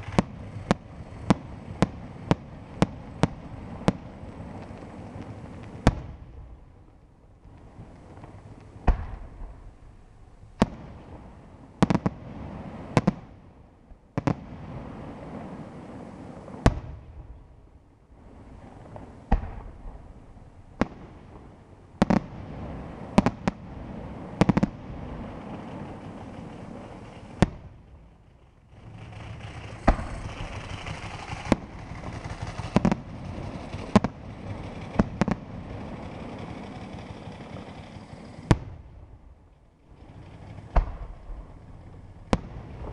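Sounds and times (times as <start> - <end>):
firework bangs: 0.0 - 6.8, 7.5 - 13.4, 18.2 - 42.9.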